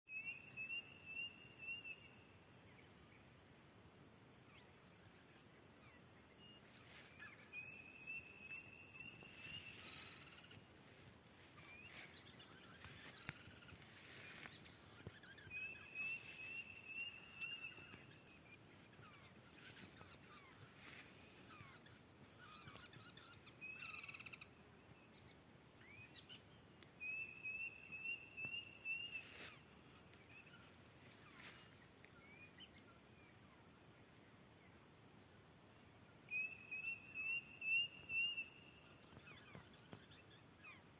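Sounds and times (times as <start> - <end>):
faint bird chirps: 0.1 - 34.7, 36.1 - 40.9
high insect trill: 2.0 - 40.9.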